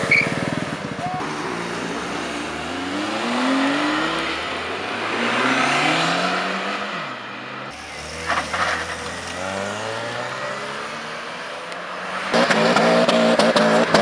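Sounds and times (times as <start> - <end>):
car engines accelerating: 0.0 - 14.0
loud car engine: 0.0 - 14.0.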